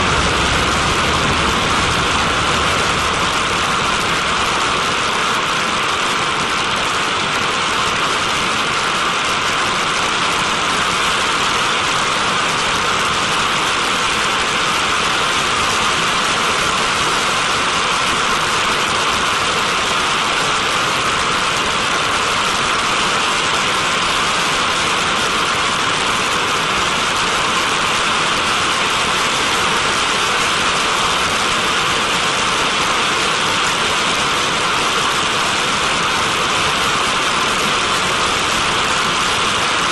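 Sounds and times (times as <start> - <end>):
jet engine rushing hiss: 0.0 - 39.9.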